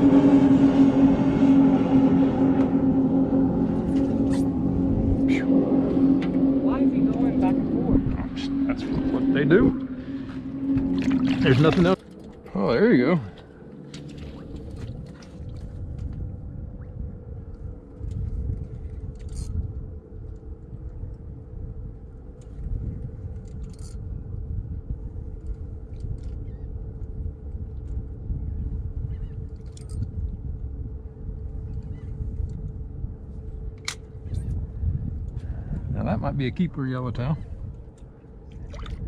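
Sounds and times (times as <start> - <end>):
steady hum: 0.0 - 39.0
wind rumbling on microphone: 0.0 - 39.0.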